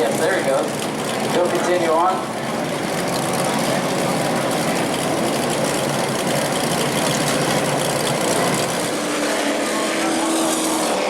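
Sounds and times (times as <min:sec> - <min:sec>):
race truck engines droning: 0:00.0 - 0:11.0.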